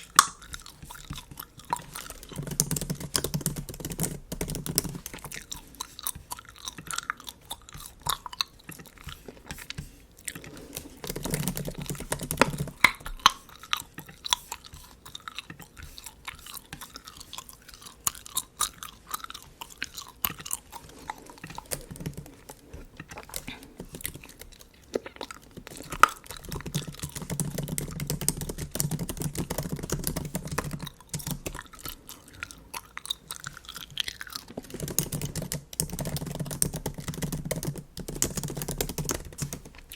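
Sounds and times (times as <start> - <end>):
laptop keyboard typing: 0.0 - 18.4, 19.6 - 24.7, 25.3 - 32.4, 33.8 - 39.9
gum chewing: 0.0 - 39.9.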